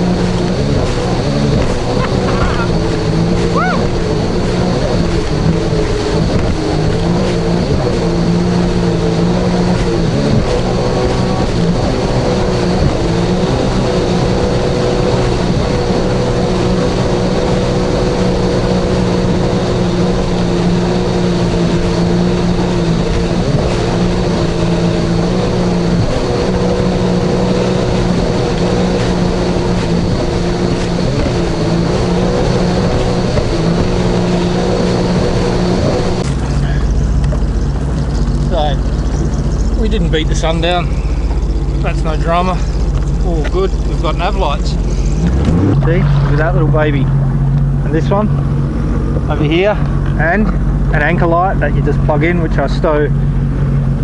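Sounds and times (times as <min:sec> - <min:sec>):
broad rushing noise: 0:00.0 - 0:54.0
jet ski engine running: 0:00.0 - 0:54.0.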